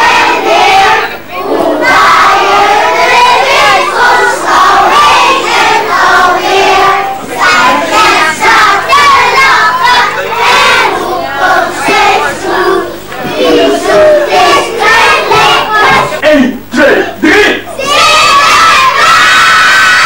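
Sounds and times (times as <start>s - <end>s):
crowd of young children: 0.0s - 16.3s, 17.2s - 20.0s.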